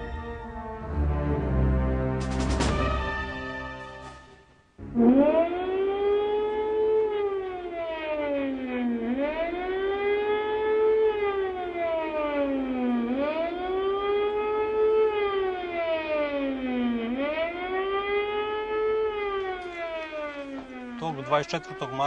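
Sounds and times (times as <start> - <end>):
air-raid siren wailing: 0.0 - 1.9, 2.6 - 22.0.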